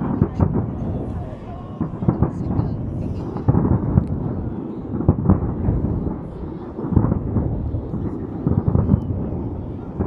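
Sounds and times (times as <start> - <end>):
distant fireworks rumble: 0.0 - 10.0
firework booms: 0.0 - 10.0.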